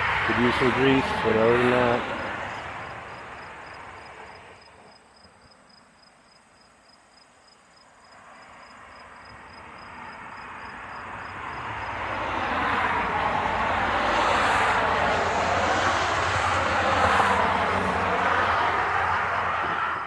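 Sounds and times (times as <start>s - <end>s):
faint distant engine noise: 0.0s - 20.0s.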